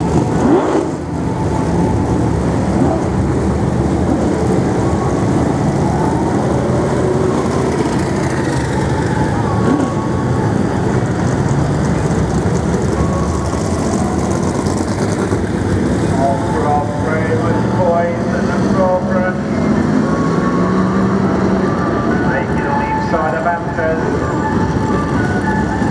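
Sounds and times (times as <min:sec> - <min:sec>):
stock car engines roaring: 0:00.0 - 0:25.9.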